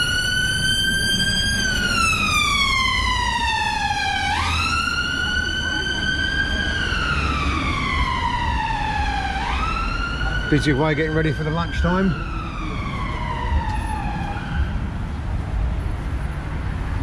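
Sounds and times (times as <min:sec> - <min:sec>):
emergency siren wailing: 0:00.0 - 0:15.1
road traffic rumble: 0:00.0 - 0:17.0.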